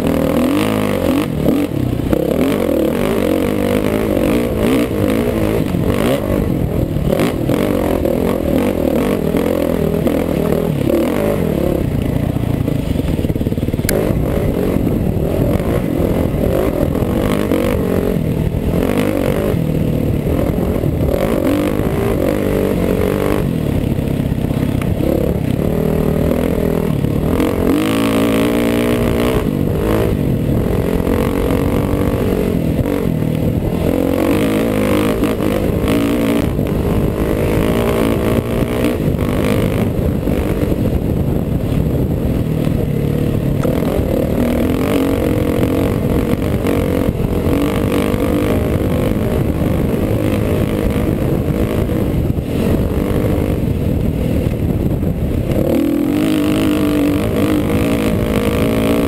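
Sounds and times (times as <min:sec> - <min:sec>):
dirt bike engine revving: 0:00.0 - 0:59.0
wind on microphone: 0:00.0 - 0:59.0.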